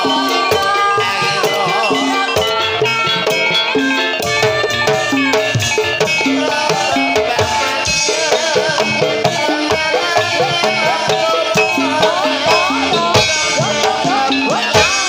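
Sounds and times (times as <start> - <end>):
hand drums: 0.0 - 15.0
struck bronze metallophones: 0.0 - 15.0
wavering melody line: 0.0 - 15.0.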